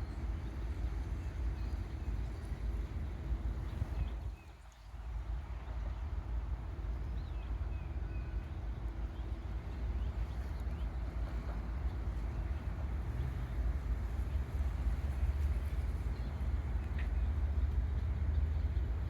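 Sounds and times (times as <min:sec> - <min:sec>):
train locomotive rumbling: 0:00.0 - 0:19.0.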